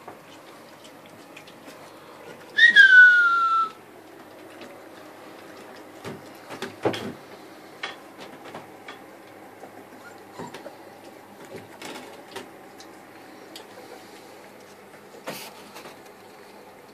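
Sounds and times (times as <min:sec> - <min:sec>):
puppies eating from steel bowl: 0:00.0 - 0:16.9.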